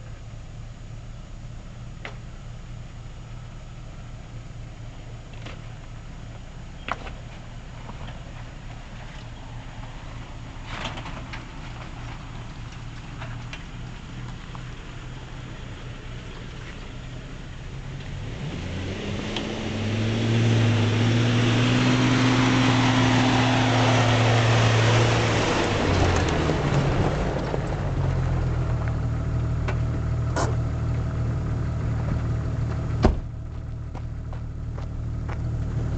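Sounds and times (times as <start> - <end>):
tyres crunching on gravel: 5.0 - 20.0, 21.9 - 35.9.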